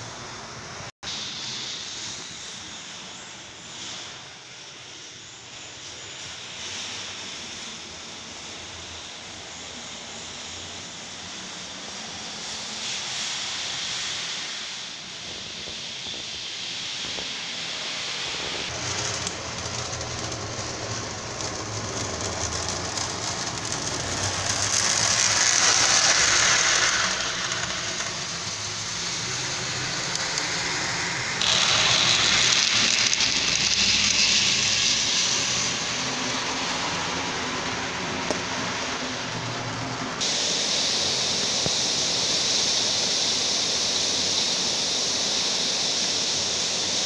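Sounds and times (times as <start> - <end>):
model train mechanical hum: 0.0 - 47.0
noisy hiss: 0.0 - 47.0.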